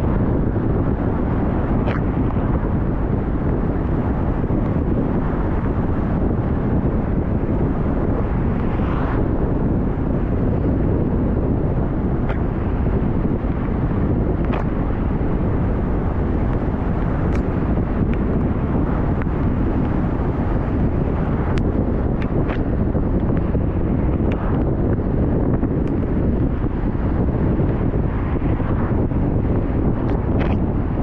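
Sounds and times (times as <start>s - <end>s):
car driving rumble: 0.0s - 31.0s
wind on microphone: 0.0s - 31.0s.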